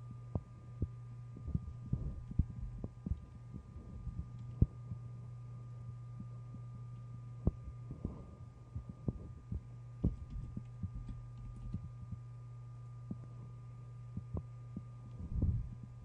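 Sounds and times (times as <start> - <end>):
electrical hum: 0.0 - 16.0
faint thin whine: 0.0 - 16.0.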